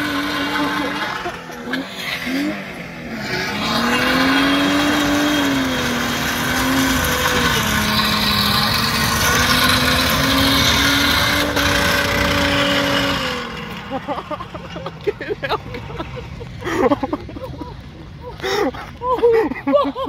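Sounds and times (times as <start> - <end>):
engine revving high: 0.0 - 17.0
wheel rim grinding on road: 0.0 - 19.2.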